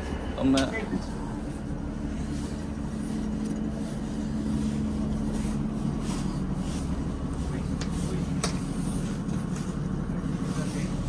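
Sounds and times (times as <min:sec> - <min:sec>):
diesel train running: 0:00.0 - 0:11.0.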